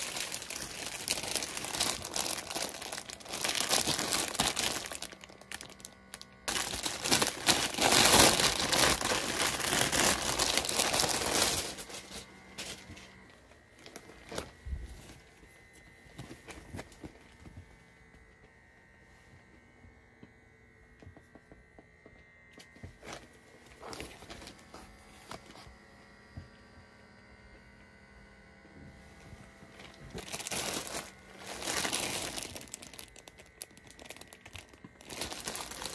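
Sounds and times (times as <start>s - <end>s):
crinkling handling noise: 0.0s - 19.0s, 22.6s - 27.0s, 28.6s - 35.9s.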